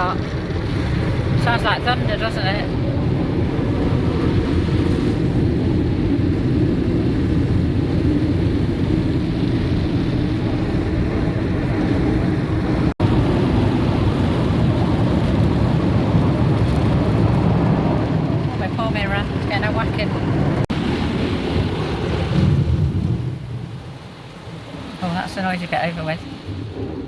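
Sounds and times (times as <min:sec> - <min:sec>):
car wash rumble: 0:00.0 - 0:27.0.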